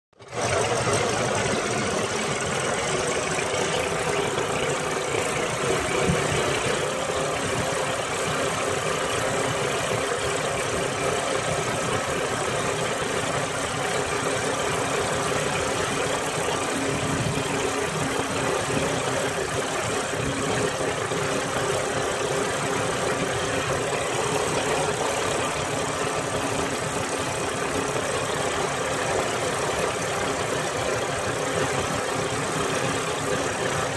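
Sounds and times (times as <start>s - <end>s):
boat engine droning: 0.2s - 33.9s.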